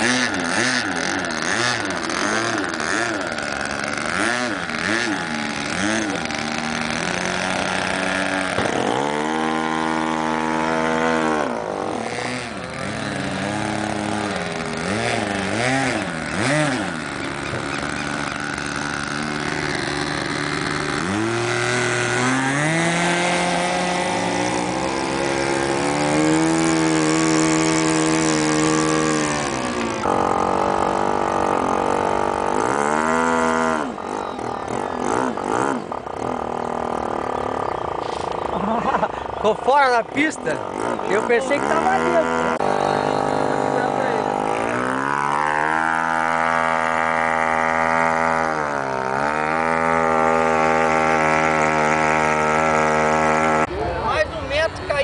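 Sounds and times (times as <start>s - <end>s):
model airplane engine revving: 0.0s - 55.0s.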